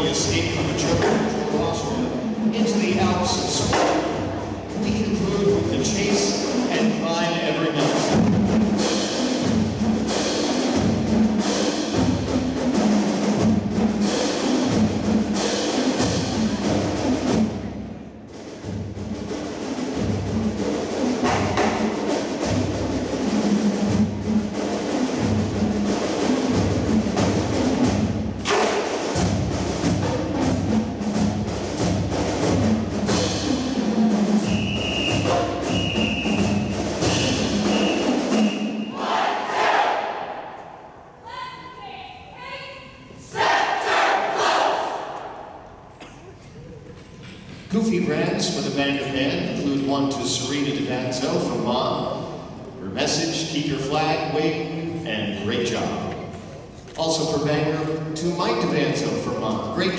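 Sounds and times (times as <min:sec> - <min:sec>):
marching band music: 0:00.0 - 0:46.2, 0:47.7 - 0:59.9.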